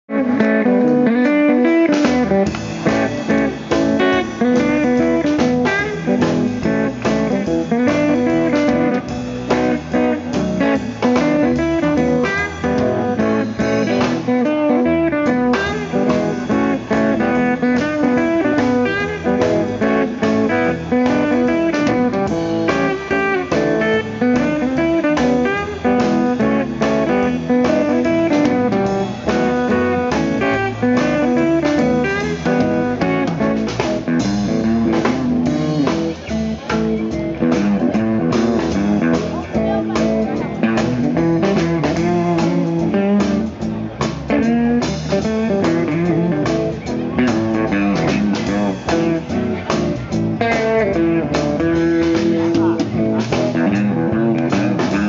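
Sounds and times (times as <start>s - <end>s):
live blues band with guitar: 0.0s - 55.0s
low bass notes: 0.1s - 55.0s.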